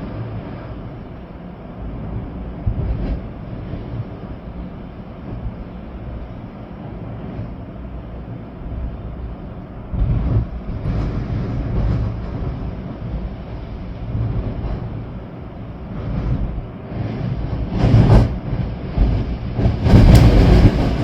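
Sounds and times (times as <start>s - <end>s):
rain: 0.0s - 21.0s
storm wind gusting: 0.0s - 21.0s.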